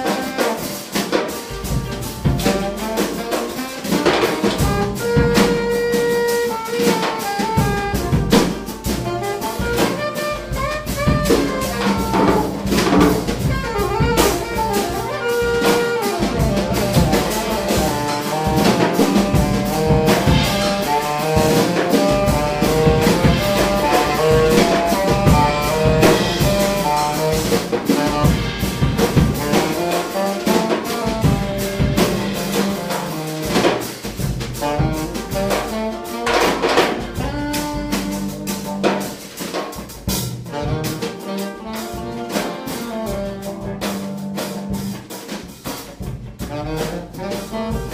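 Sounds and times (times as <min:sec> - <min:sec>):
saxophone playing: 0:00.0 - 0:39.5, 0:40.1 - 0:47.9
drums: 0:00.0 - 0:47.9.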